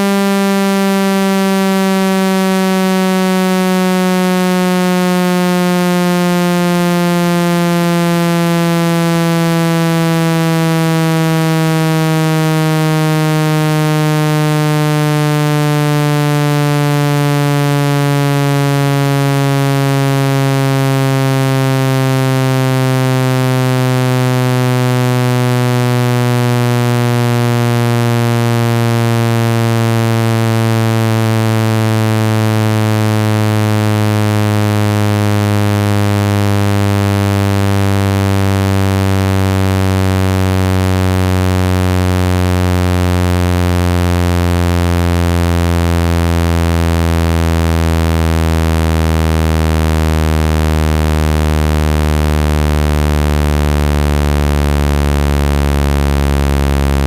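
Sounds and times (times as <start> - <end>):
synthetic buzzing tone: 0.0 - 44.5, 45.1 - 57.0.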